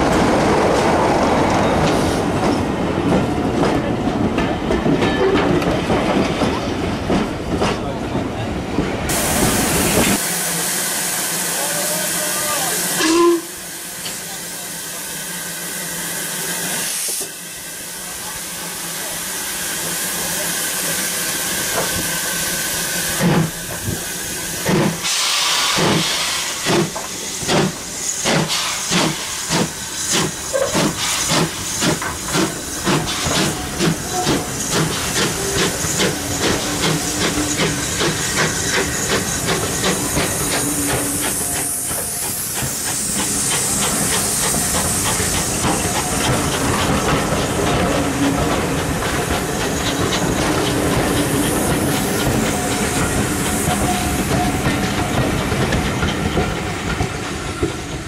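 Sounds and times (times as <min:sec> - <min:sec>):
steam locomotive hissing: 0:09.0 - 0:58.0
steam locomotive chuffing: 0:09.1 - 0:58.0.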